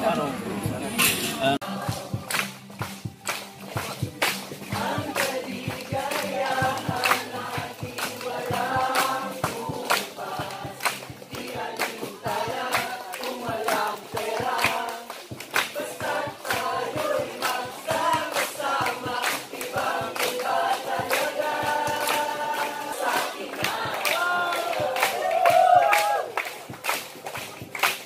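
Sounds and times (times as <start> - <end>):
group singing together: 0.0 - 26.5
hand claps: 1.8 - 28.0.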